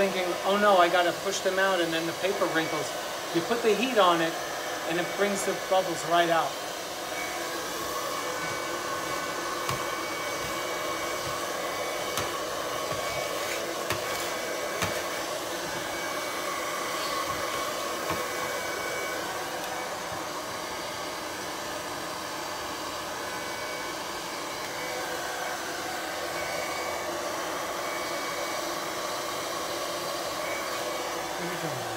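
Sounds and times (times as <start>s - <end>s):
hair dryer blowing: 0.0s - 31.9s.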